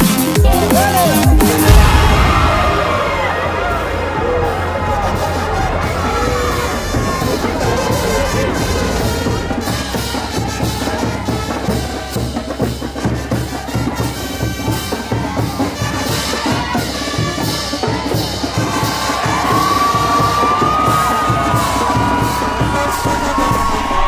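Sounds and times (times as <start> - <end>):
music with steady beat: 0.0 - 23.9.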